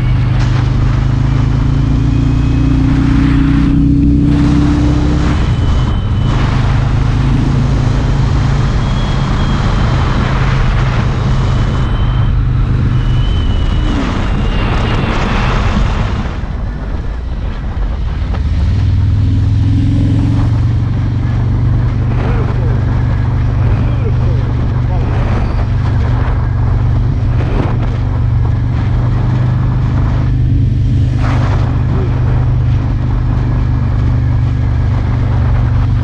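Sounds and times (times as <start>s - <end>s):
motorcycle engine running: 0.0s - 13.6s, 17.5s - 36.0s
wind rush: 0.0s - 36.0s.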